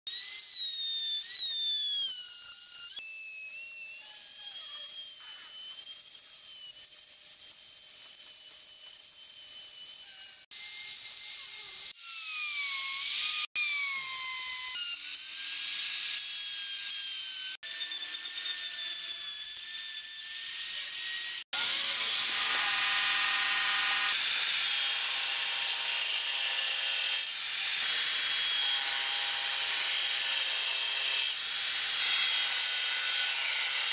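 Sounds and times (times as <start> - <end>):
router whining cutting wood: 0.1 - 19.4, 20.2 - 33.9
table saw sawing: 3.8 - 33.9.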